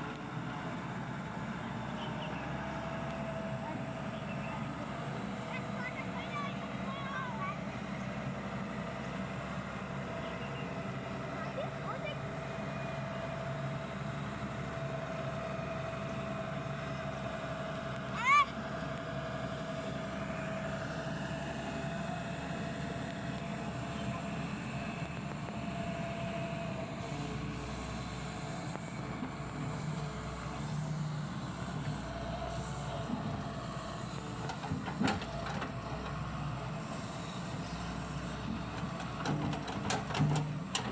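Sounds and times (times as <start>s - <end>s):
excavator engine drone: 0.0s - 40.9s.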